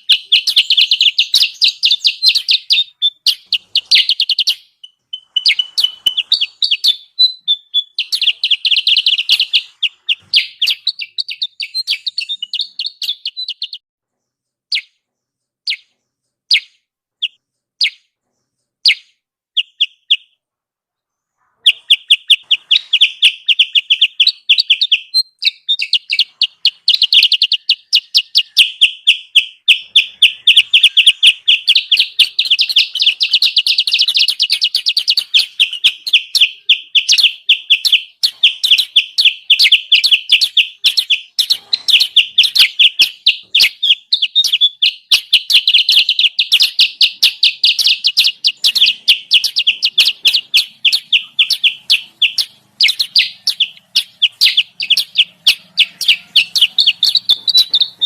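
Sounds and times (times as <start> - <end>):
bird chirping calls: 0.0 - 58.0.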